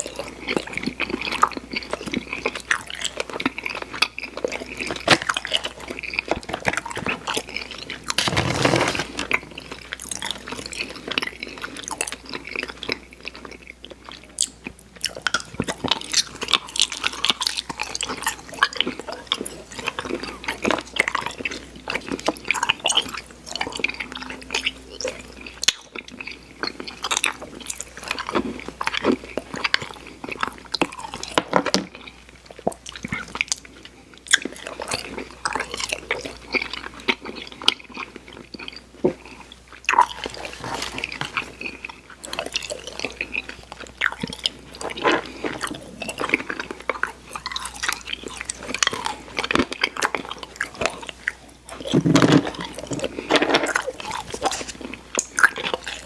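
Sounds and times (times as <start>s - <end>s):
chewing sticky candy: 0.0s - 56.0s.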